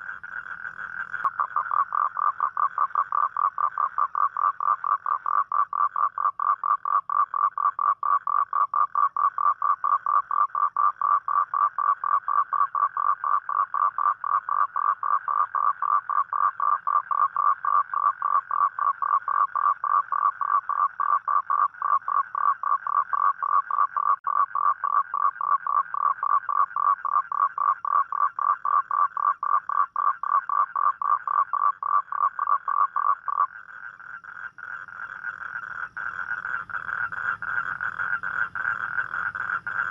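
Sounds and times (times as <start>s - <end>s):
toad calling in rapid pulses: 0.0s - 39.9s.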